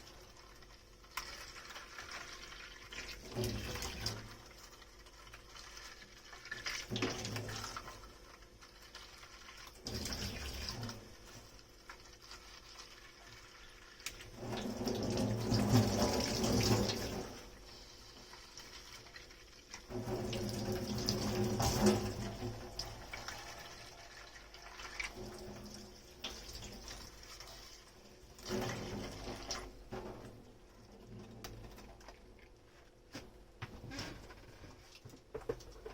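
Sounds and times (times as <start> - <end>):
water dripping: 0.0 - 17.4, 18.2 - 32.7
tap water running: 0.0 - 35.9.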